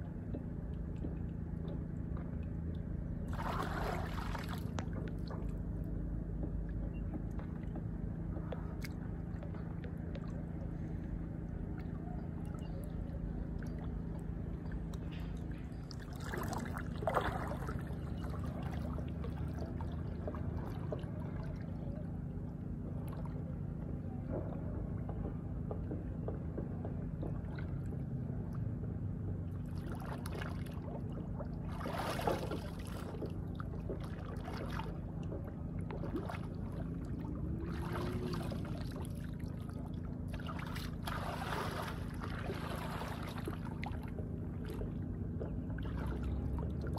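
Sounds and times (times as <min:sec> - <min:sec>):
steady low hum: 0:00.0 - 0:46.9
water sloshing and splashing: 0:00.1 - 0:46.9.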